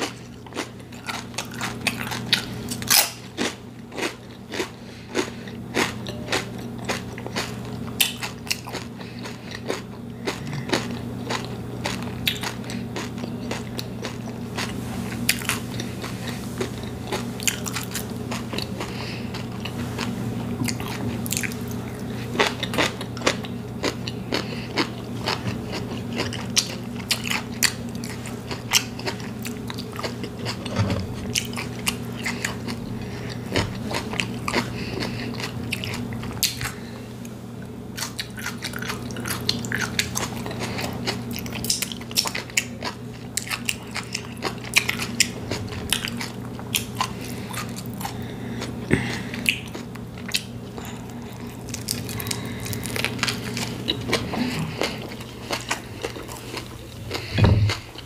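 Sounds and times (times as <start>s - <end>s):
crunchy chewing: 0.0s - 58.0s
faint low hum: 0.0s - 58.0s.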